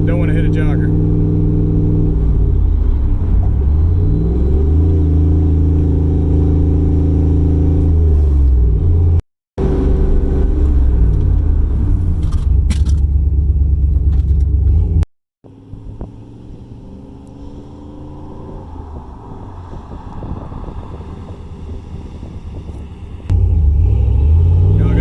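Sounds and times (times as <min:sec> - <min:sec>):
pickup truck engine rumbling: 0:00.0 - 0:25.0.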